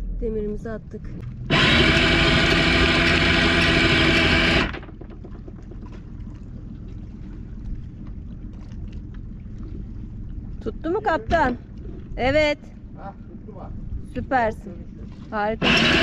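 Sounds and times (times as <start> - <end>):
motorboat motor running: 0.0 - 16.0.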